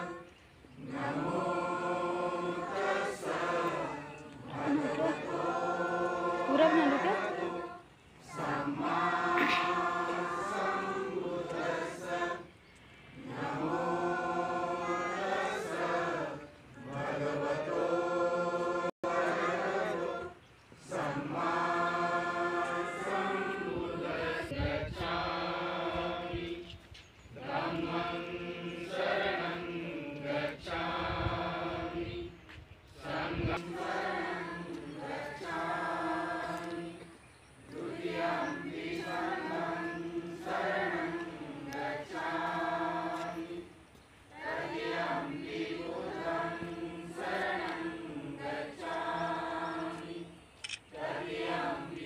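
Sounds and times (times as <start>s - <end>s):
group chanting in unison: 0.0s - 52.0s.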